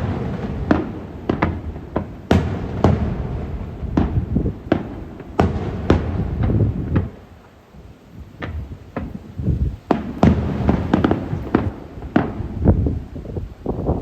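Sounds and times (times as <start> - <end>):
firework shells bursting: 0.0 - 7.5, 8.4 - 13.0.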